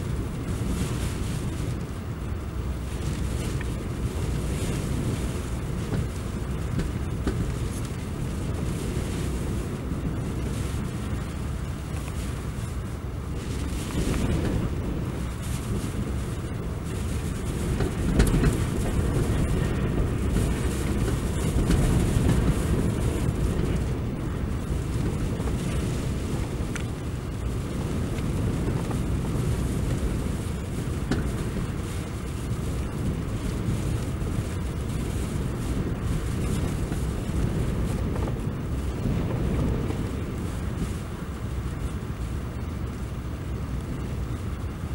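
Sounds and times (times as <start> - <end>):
wind buffeting microphone: 0.0 - 44.9
heavy surf on rocks: 2.8 - 41.0.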